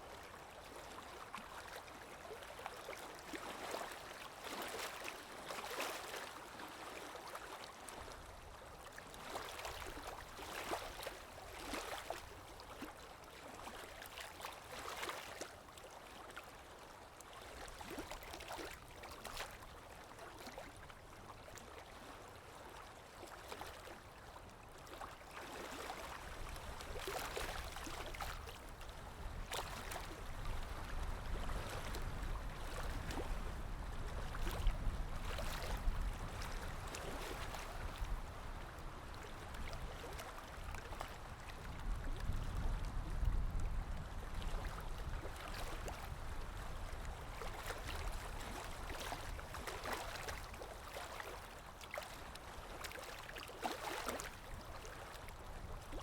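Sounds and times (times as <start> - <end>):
water lapping and splashing: 0.0 - 56.0.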